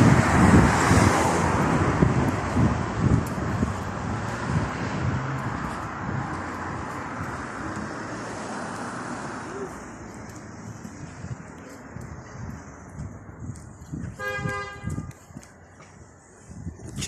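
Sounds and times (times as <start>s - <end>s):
passing vehicle: 0.0s - 17.0s
street traffic: 0.0s - 17.0s
wind on microphone: 0.0s - 17.0s.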